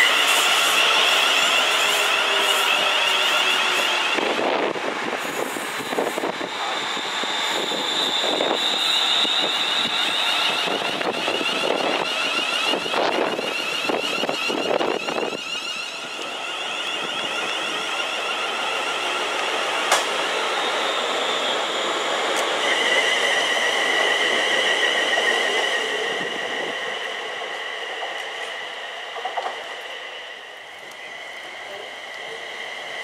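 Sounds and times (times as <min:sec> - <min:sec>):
train wheels rushing on rails: 0:00.0 - 0:33.0
high-pitched whine: 0:05.2 - 0:33.0
high wavering squeal: 0:05.3 - 0:33.0.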